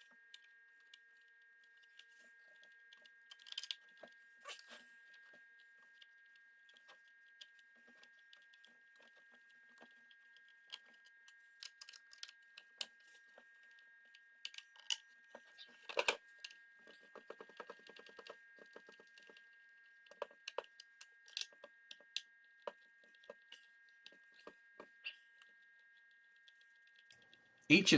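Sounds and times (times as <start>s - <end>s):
small parts clicking and tapping: 0.0s - 27.7s.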